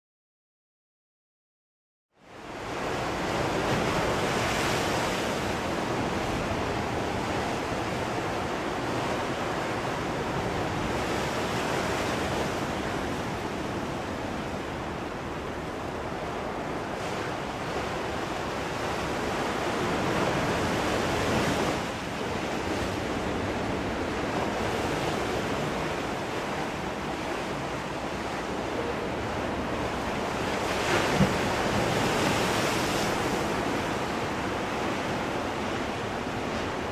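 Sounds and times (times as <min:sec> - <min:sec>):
sea waves breaking on shore: 0:02.3 - 0:36.9.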